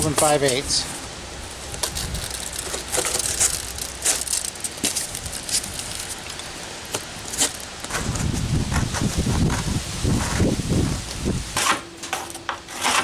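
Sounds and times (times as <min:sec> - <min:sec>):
low rumbling of handling: 0:00.0 - 0:11.6
tools and materials being handled: 0:00.0 - 0:13.0.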